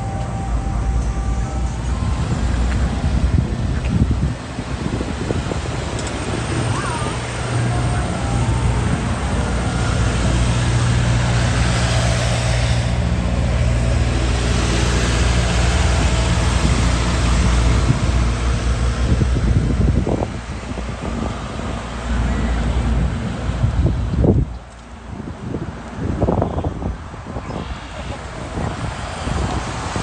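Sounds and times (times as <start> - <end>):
road noise of passing vehicle: 0.0 - 30.0
vehicle engine humming: 0.0 - 30.0.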